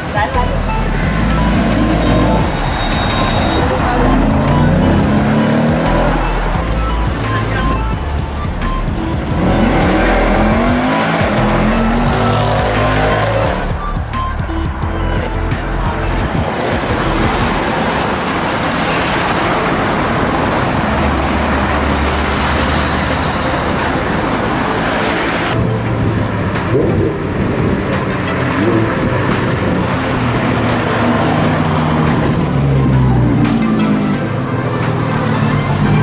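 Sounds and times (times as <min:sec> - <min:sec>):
cars driving past: 0:00.0 - 0:36.0.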